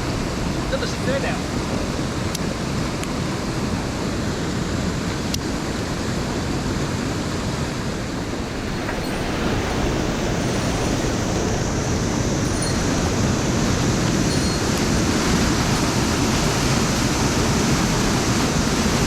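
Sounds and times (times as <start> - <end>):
rushing stream: 0.0 - 19.0.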